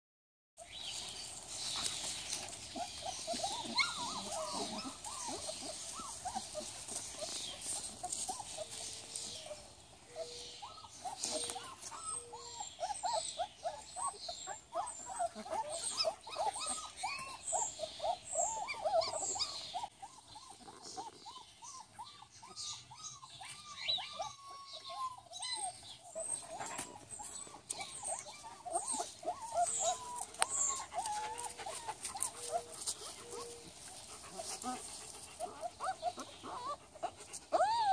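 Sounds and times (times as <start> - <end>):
puppies squeaking and whining: 0.6 - 37.9.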